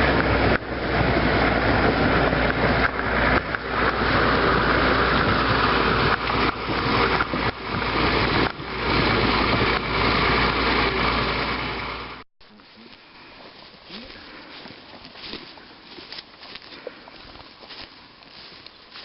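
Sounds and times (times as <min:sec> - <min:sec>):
sled scraping over ground: 0:00.0 - 0:19.0
tractor engine running: 0:00.0 - 0:19.0.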